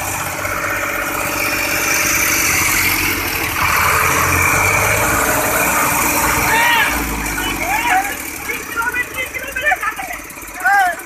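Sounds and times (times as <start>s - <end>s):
diesel tractor engines running: 0.0s - 11.0s.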